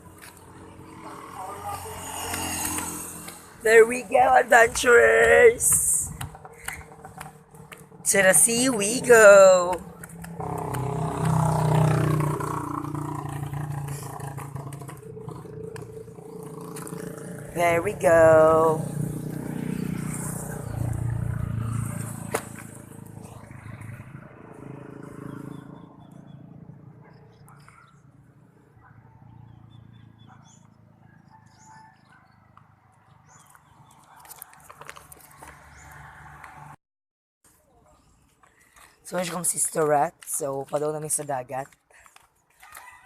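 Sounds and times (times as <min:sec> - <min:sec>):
vehicle engine passing by: 0:00.0 - 0:36.8.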